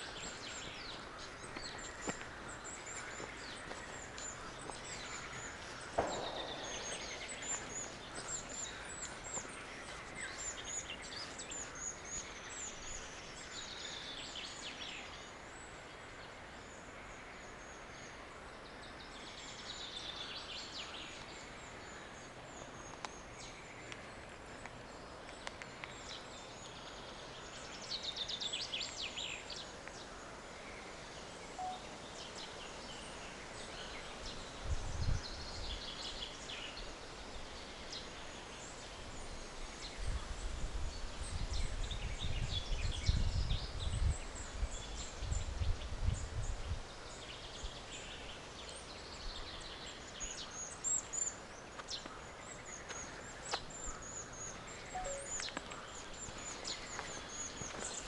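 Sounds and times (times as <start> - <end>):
birds singing and chirping: 0.0 - 15.8, 18.8 - 58.0.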